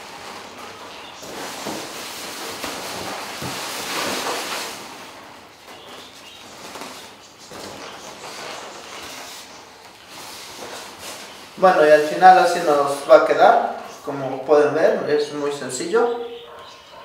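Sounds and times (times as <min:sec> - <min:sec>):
balloons rubbing and rustling: 0:00.0 - 0:16.4.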